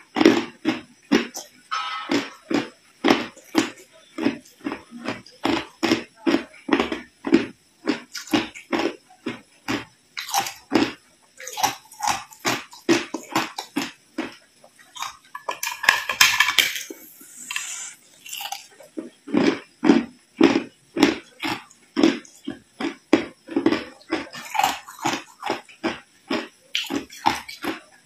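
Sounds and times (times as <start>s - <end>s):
ice being chewed: 0.0s - 27.9s.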